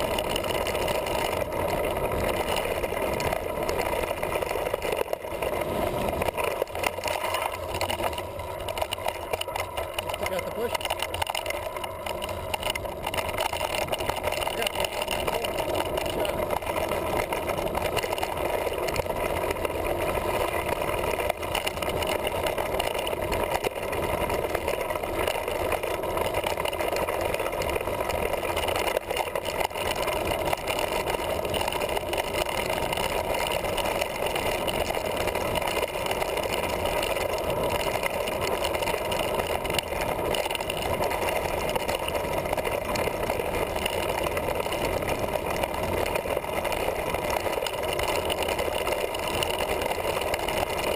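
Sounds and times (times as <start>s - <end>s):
bike trail rumble: 0.0s - 50.9s.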